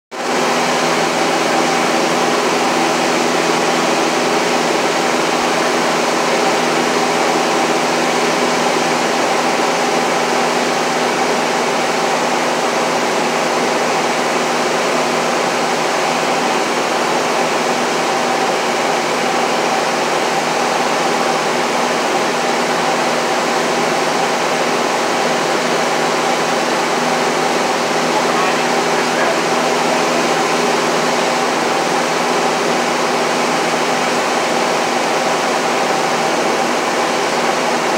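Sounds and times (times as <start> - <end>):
airplane engine and propeller drone: 0.2 - 37.9.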